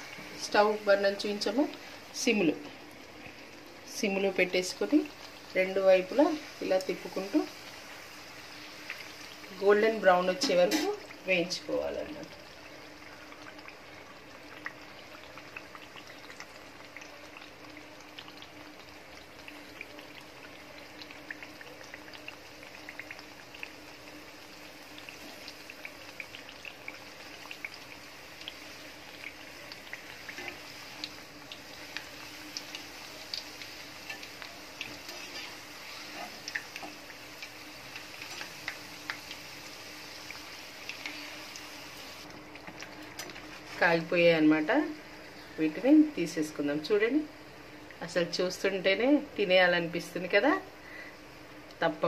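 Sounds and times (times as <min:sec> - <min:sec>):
pastries deep-frying in oil: 0:00.0 - 0:52.0.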